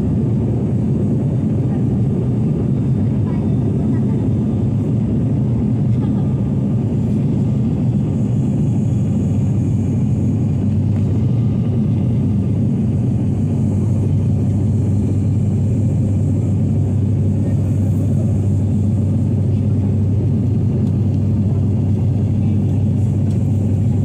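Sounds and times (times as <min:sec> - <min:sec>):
airliner engine drone: 0:00.0 - 0:24.0.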